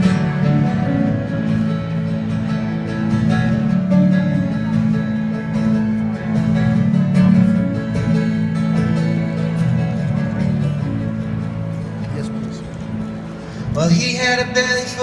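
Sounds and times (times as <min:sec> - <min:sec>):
guitar strumming: 0:00.0 - 0:15.0
live band playing: 0:00.0 - 0:15.0.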